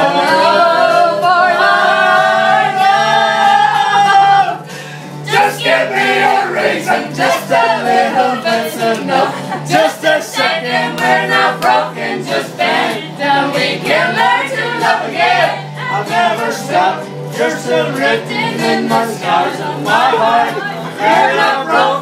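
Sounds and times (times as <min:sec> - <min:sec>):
group singing a pop song: 0:00.0 - 0:22.0.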